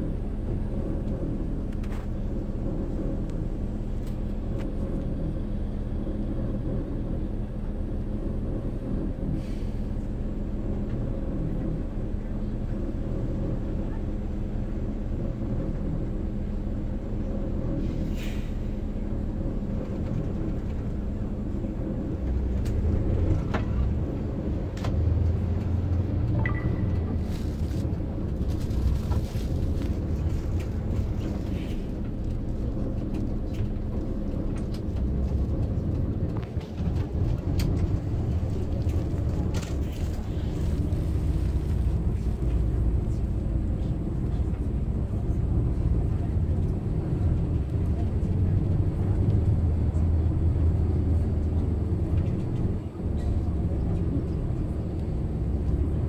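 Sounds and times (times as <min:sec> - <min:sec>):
bus engine drone: 0:00.0 - 0:56.0
road rumble: 0:00.0 - 0:56.0.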